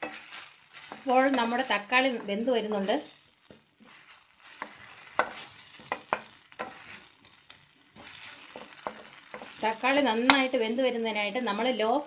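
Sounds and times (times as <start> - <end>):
spatula scraping a pan: 0.0 - 10.5
masala sizzling in a pan: 0.0 - 12.0.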